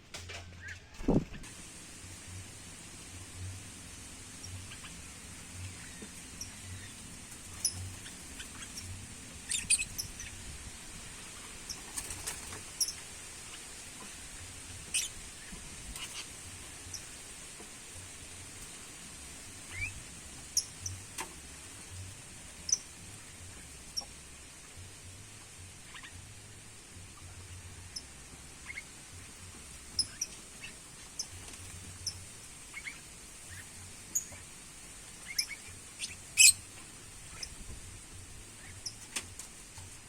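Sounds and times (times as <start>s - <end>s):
faint hiss: 1.0s - 40.0s
small birds chirping: 1.6s - 40.0s.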